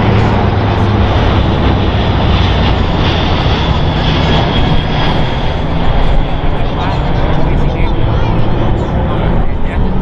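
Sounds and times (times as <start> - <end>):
aircraft engines flying past: 0.0 - 10.0.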